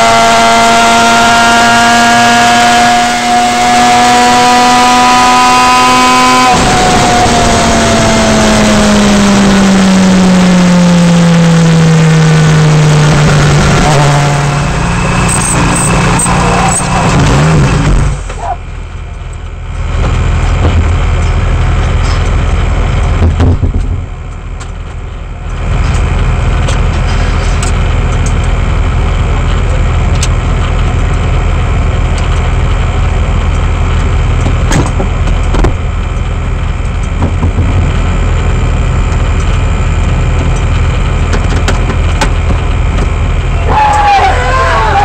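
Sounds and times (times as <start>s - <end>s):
race car engine idling: 6.6s - 45.0s.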